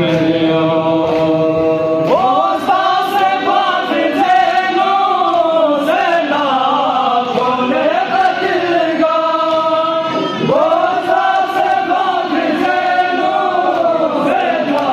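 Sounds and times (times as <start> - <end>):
men chanting a mourning lament: 0.0 - 14.9.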